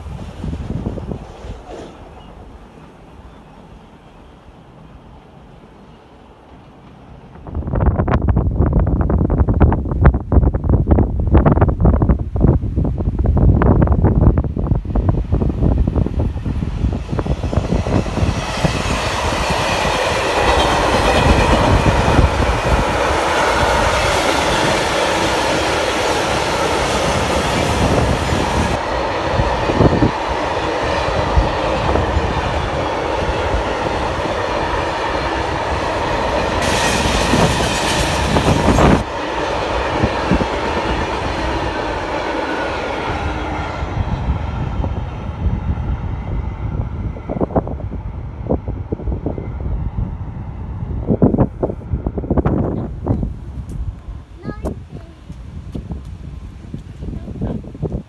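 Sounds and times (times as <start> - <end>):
train wheels on rails: 0.0 - 9.8, 13.2 - 58.0
diesel locomotive engine: 0.0 - 58.0.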